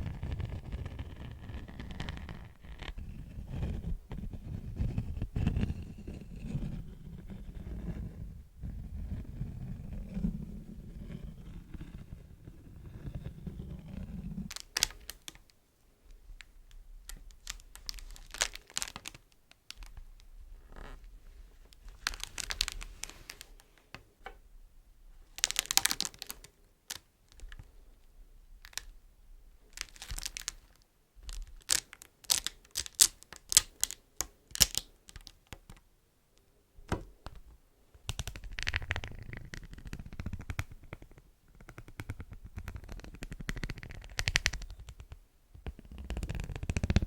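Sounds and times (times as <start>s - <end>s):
beeswax crinkling: 0.0s - 7.5s, 10.0s - 15.5s, 16.1s - 24.0s, 25.3s - 27.8s, 28.6s - 29.0s, 29.6s - 35.8s, 36.8s - 47.0s.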